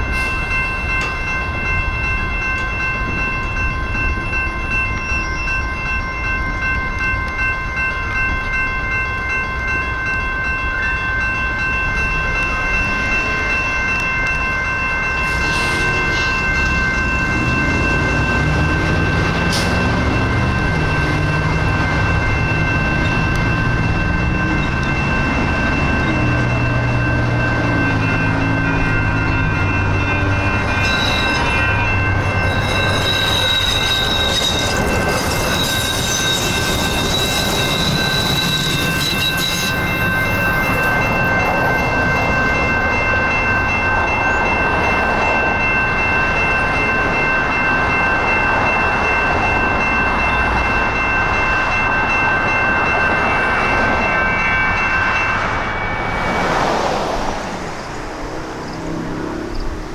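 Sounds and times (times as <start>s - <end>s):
electronic crossing bell ringing: 0.0s - 58.0s
train rumbling: 0.0s - 59.9s.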